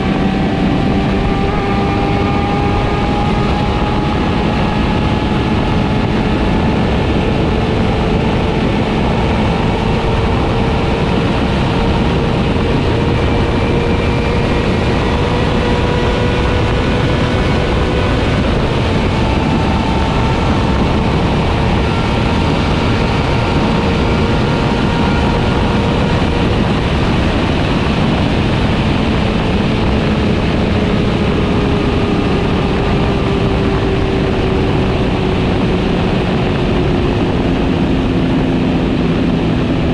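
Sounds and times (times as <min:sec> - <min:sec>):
motorcycle engine at high revs: 0:00.0 - 0:39.9
rushing wind: 0:00.0 - 0:39.9.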